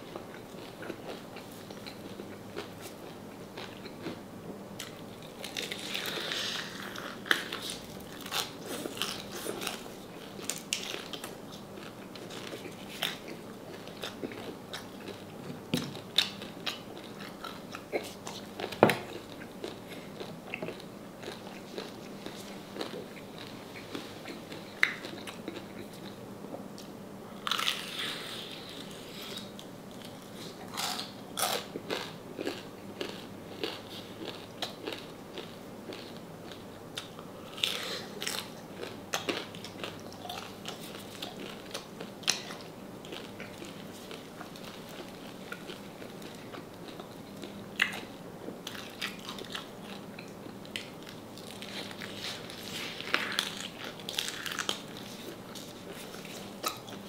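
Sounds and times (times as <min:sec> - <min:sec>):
chewing: 0:00.1 - 0:04.2, 0:04.8 - 0:26.2, 0:26.8 - 0:57.0.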